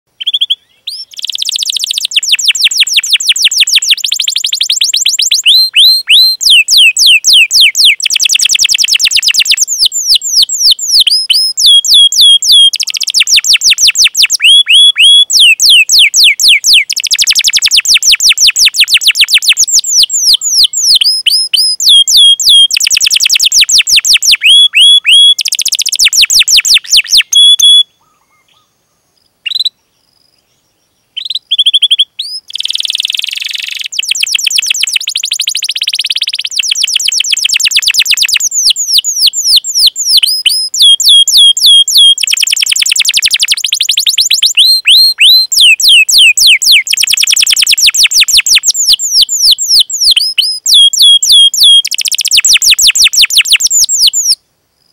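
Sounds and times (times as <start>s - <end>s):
canary singing trills and chirps: 0.1s - 28.6s, 31.1s - 54.4s.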